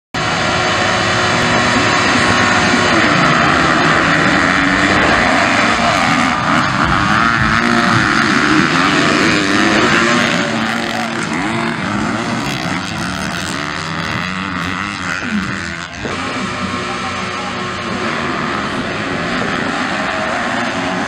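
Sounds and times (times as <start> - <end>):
motocross bikes revving: 0.2 - 21.0.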